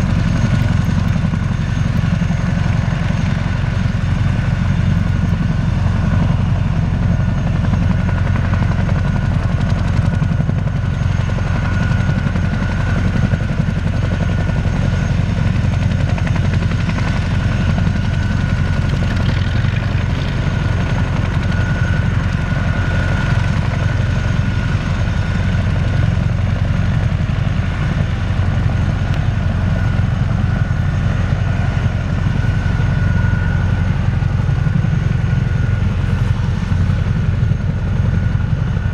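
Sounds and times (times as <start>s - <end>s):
helicopter rotor drone: 0.0s - 38.9s
turbine whine: 0.0s - 38.9s.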